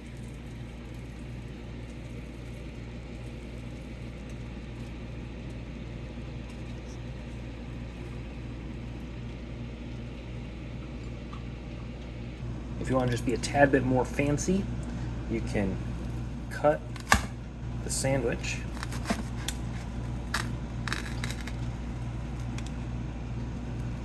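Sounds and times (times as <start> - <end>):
low hum and whir: 0.0 - 24.0.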